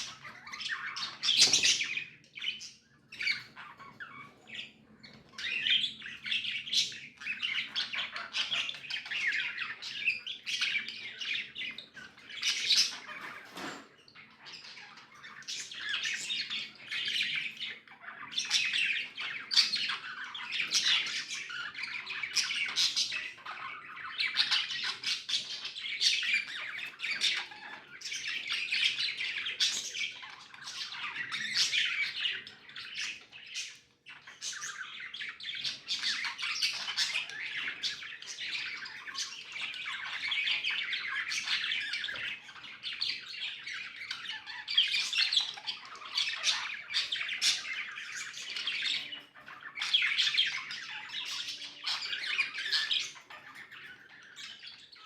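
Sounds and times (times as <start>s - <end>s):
budgies chattering and chirping: 0.0s - 55.0s.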